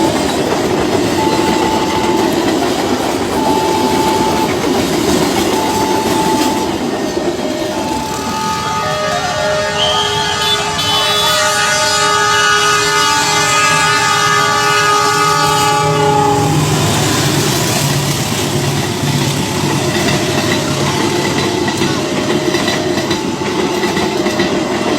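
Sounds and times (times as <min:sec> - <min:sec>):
train wheels rumbling on rails: 0:00.0 - 0:24.9
train horn blast: 0:01.0 - 0:24.5.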